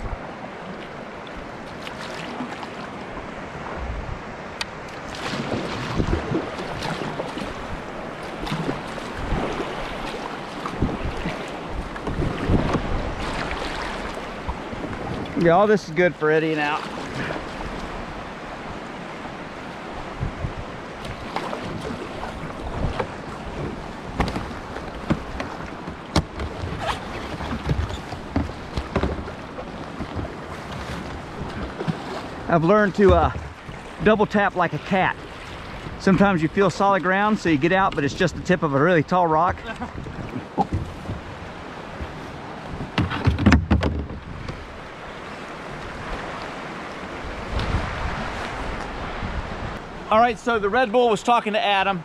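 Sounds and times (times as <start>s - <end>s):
river water rushing: 0.0s - 43.3s, 44.2s - 52.0s
paddle strokes splashing: 0.0s - 50.1s
wind buffeting the microphone: 3.2s - 15.8s, 16.9s - 50.4s.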